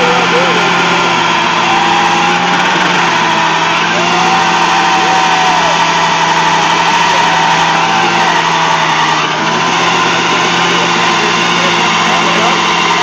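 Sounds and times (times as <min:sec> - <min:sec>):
two-stroke engine at high revs: 0:00.0 - 0:13.0.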